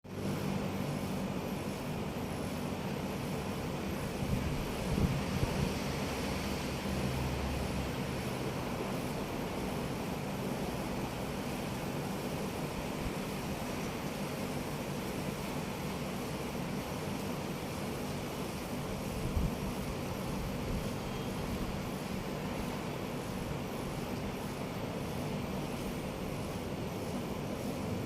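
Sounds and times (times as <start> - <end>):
condenser fan rushing: 0.1 - 28.0.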